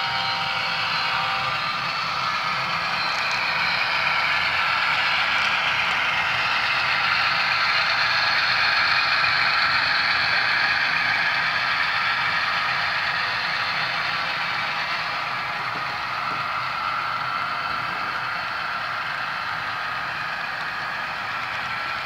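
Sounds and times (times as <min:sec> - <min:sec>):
model train wheels rolling on rails: 0:00.0 - 0:22.0.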